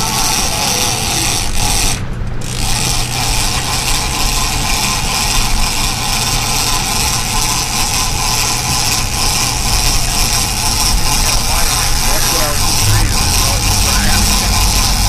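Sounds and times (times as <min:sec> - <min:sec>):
boat engine hum: 0:00.0 - 0:15.0
wind: 0:00.0 - 0:15.0.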